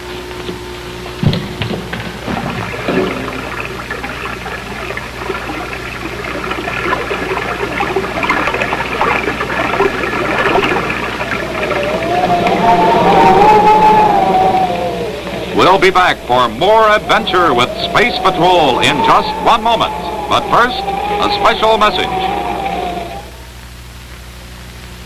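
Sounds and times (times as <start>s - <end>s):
bubbling gurgling water: 0.6s - 24.0s
wavering musical tone: 2.9s - 23.6s.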